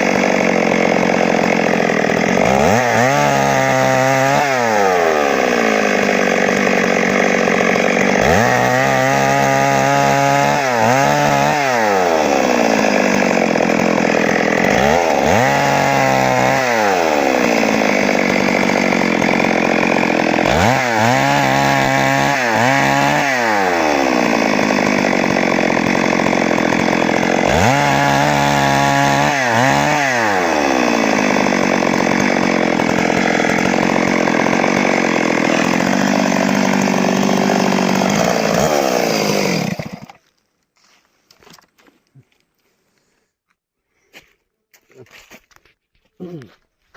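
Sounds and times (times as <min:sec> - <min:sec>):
chainsaw engine revving: 0:00.0 - 0:40.2.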